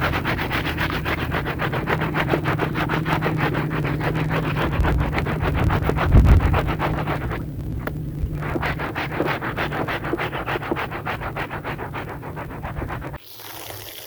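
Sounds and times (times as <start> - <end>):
rug being scrubbed: 0.0 - 13.2
steady low hum: 0.0 - 13.2.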